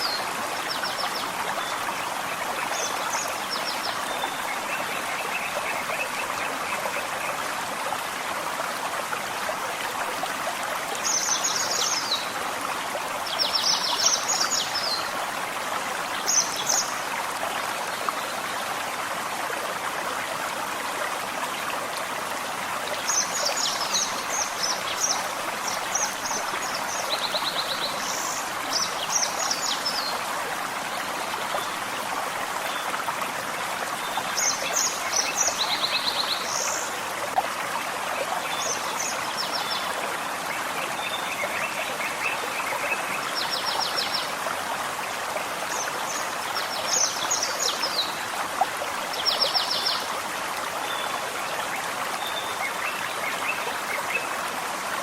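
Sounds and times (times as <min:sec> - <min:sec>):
forest stream running: 0:00.0 - 0:55.0.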